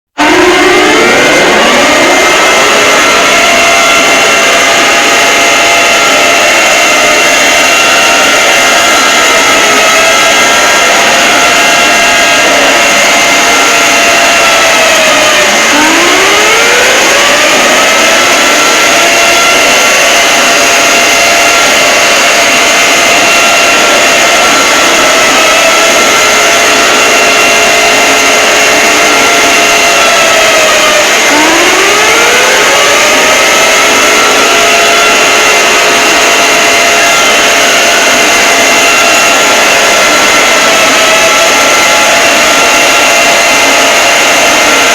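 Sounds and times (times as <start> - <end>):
distorted emergency alert alarm: 0.0 - 44.9
dense noise: 0.1 - 44.9.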